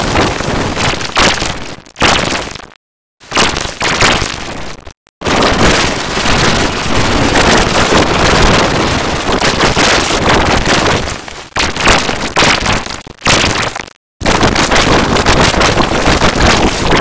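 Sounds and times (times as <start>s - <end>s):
harsh distorted noise: 0.0s - 17.0s.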